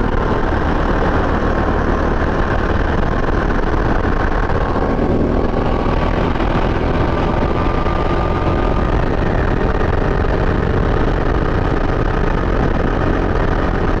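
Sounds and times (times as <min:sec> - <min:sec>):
kart engine running hard: 0:00.0 - 0:14.0.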